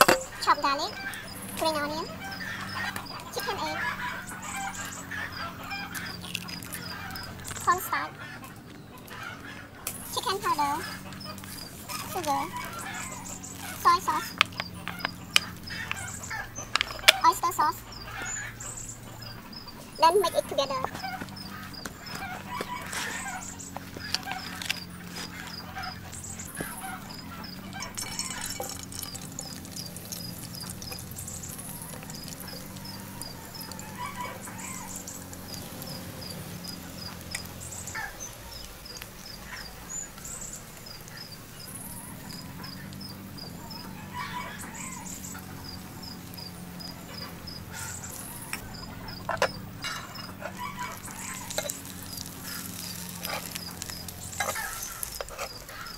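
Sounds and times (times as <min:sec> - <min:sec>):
fowl calling: 0:00.0 - 0:55.9
small bird chirping: 0:00.0 - 0:55.9.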